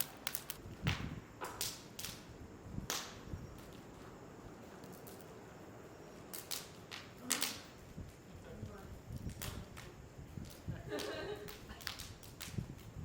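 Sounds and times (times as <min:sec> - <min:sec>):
faint steady hiss: 0:00.0 - 0:13.0
fire popping: 0:00.0 - 0:13.0
wood fire crackling: 0:00.0 - 0:13.0.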